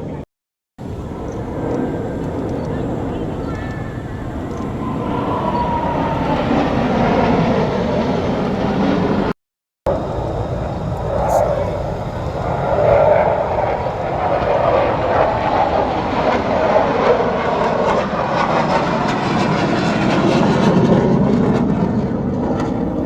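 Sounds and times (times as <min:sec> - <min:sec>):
jet engine rushing: 0:00.8 - 0:23.0.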